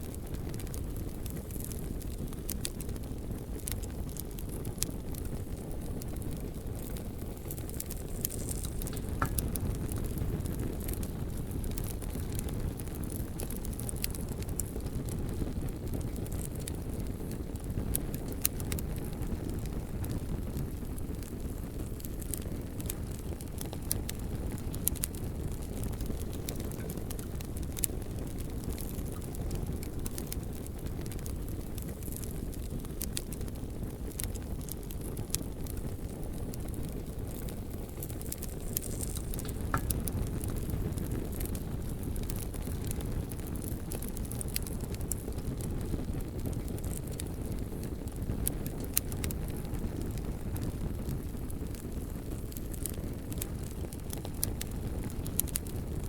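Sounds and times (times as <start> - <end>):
bonfire flames rumbling and crackling: 0.0 - 56.0.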